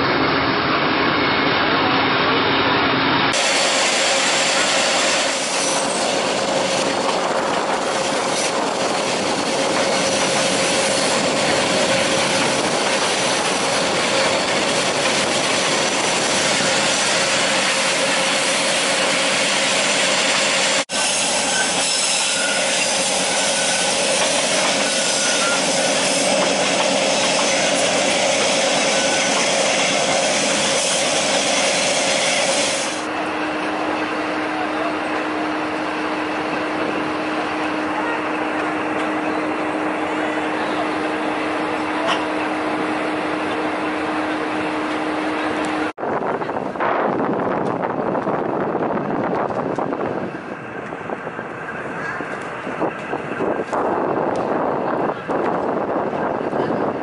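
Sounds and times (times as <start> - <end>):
train wheels and rattling coach: 0.3 - 57.0.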